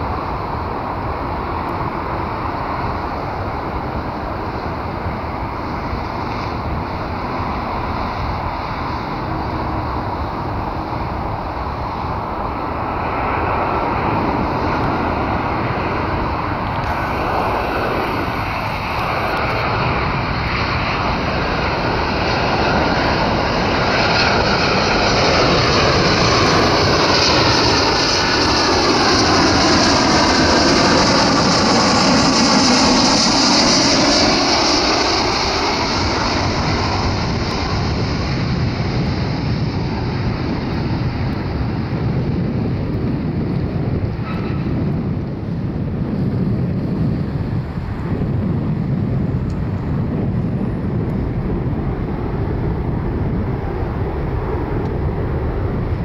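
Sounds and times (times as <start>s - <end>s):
jet engines on approach: 0.0s - 56.0s.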